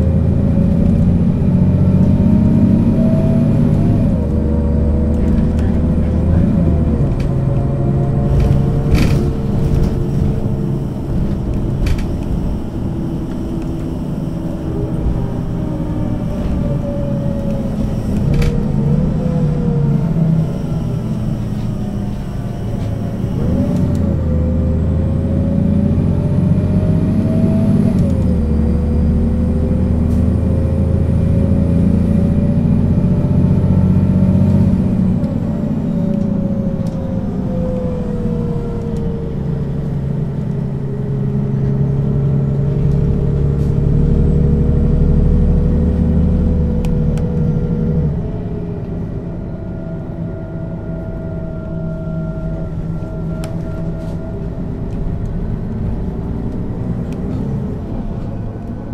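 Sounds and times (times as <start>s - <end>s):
bus engine accelerating: 0.0s - 58.9s.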